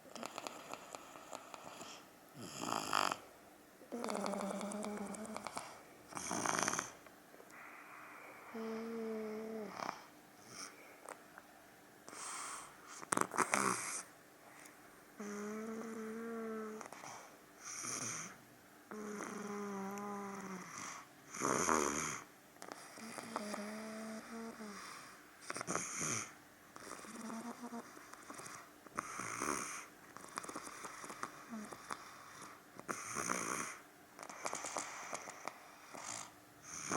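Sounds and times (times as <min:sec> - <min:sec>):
toddler snoring loudly: 0:00.1 - 0:07.0, 0:08.4 - 0:10.7, 0:12.1 - 0:14.1, 0:15.2 - 0:36.9.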